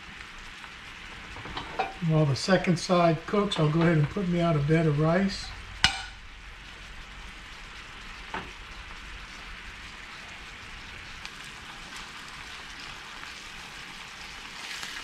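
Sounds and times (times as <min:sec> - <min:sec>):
fish sizzling in a skillet: 0:00.0 - 0:02.2, 0:05.1 - 0:15.0.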